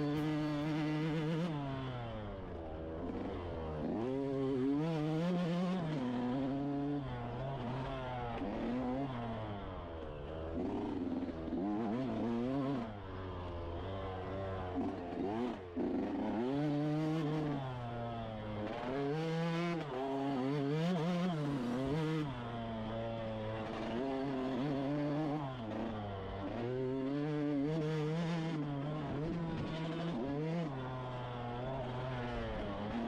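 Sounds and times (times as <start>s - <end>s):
engine revving: 0.0s - 33.0s.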